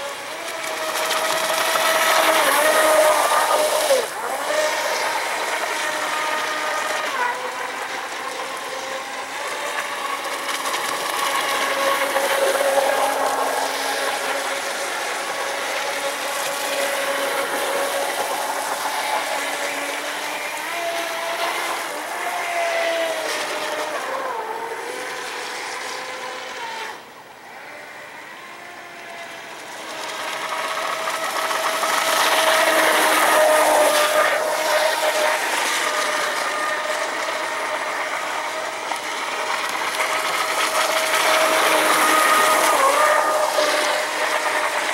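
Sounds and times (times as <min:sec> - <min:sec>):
high motor whine: 0:00.0 - 0:44.9
hull and spray hissing: 0:00.2 - 0:26.6, 0:29.2 - 0:44.9.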